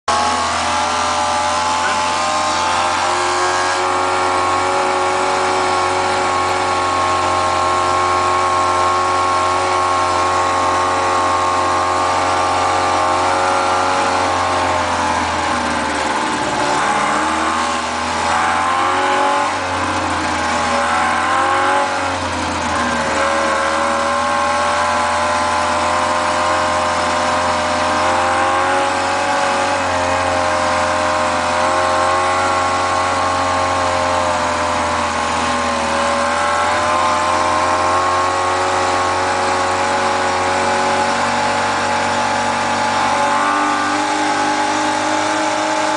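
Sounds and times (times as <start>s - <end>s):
two-stroke engine labouring: 0.1s - 45.9s.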